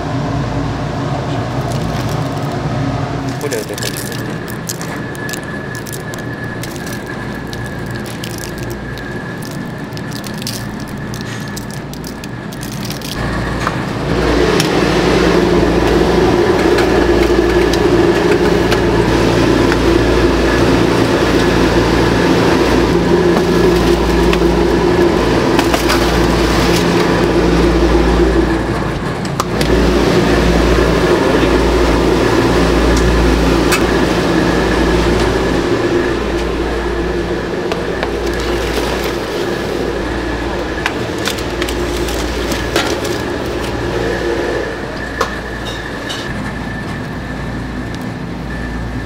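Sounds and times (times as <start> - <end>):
deep rumble: 0.0 - 45.7
kitchen machinery humming: 0.0 - 49.0.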